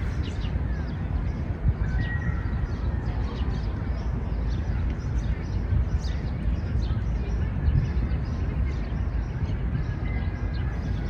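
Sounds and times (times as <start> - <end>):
distant traffic rumble: 0.0 - 11.0
small birds chirping: 0.0 - 11.0.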